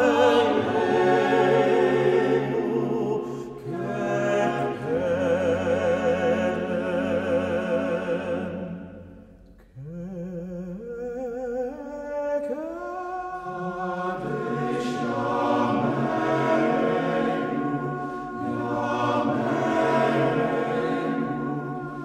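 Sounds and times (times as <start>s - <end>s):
men's choir singing a cappella: 0.0s - 9.0s, 12.2s - 22.0s
cantor singing: 0.0s - 22.0s.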